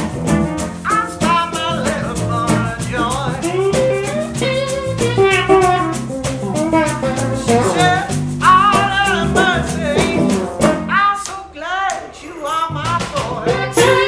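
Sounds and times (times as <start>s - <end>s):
sliding lead guitar line: 0.0s - 10.9s, 13.4s - 14.0s
electric guitars and bass: 0.0s - 11.0s, 12.7s - 14.0s.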